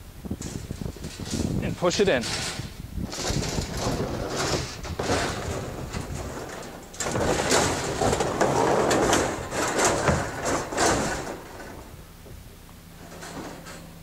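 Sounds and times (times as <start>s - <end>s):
wire cage scraping and rattling: 0.2s - 12.3s, 12.9s - 14.0s
metal clanks: 0.3s - 12.4s, 13.0s - 14.0s.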